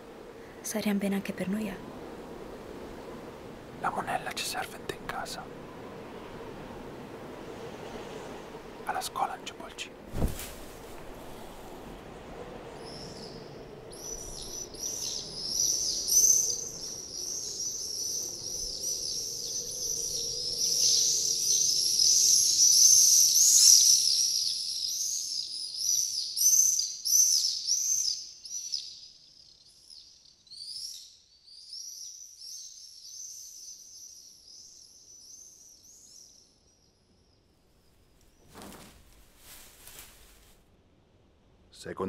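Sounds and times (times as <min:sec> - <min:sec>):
small birds chirping: 0:00.1 - 0:10.2, 0:12.2 - 0:40.2.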